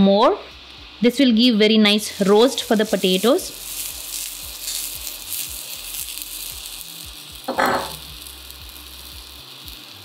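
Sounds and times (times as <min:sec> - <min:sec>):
food sizzling in pan: 0:00.0 - 0:10.0.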